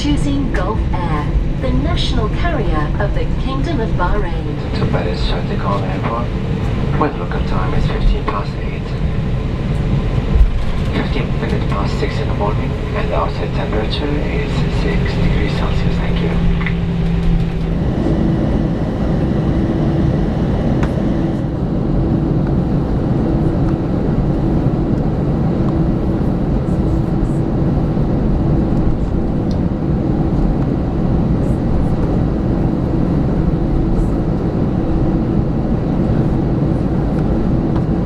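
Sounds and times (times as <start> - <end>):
aircraft cabin rumble: 0.0 - 38.0
constant hum: 0.0 - 38.0.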